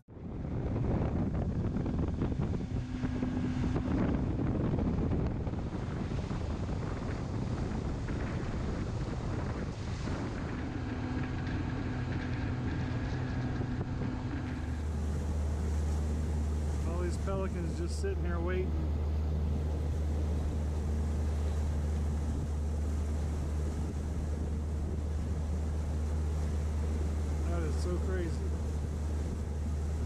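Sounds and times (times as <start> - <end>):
water rushing past hull: 0.0 - 30.0
wind buffeting microphone: 0.0 - 30.0
outboard motor running: 0.1 - 30.0.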